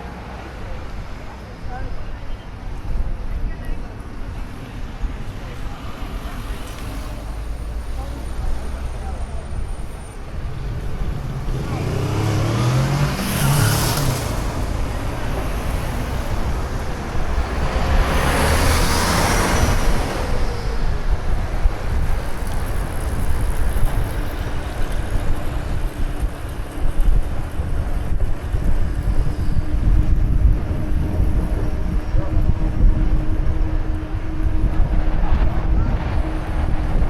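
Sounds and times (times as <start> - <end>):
road traffic passing: 0.0 - 37.0
wind on microphone: 1.8 - 37.0.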